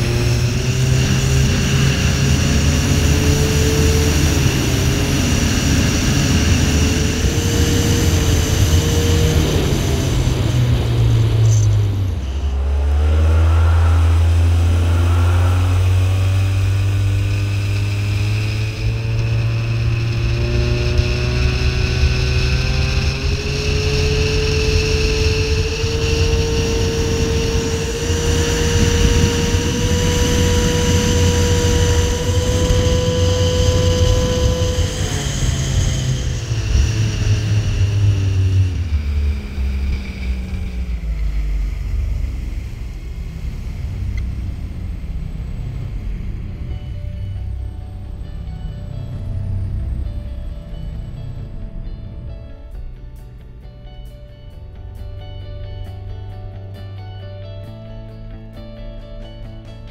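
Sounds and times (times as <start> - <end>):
outboard motor running hard: 0.0 - 52.6.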